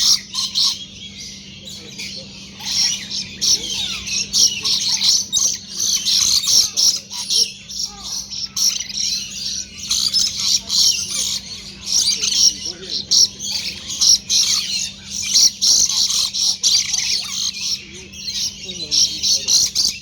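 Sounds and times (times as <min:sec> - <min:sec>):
parrots chirping and squawking: 0:00.0 - 0:20.0
steady low hum: 0:00.0 - 0:20.0.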